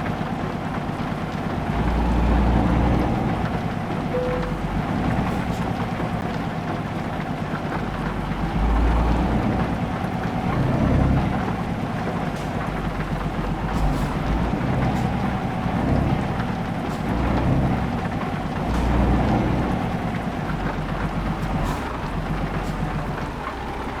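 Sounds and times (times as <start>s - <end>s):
truck diesel engine revving: 0.4s - 24.0s.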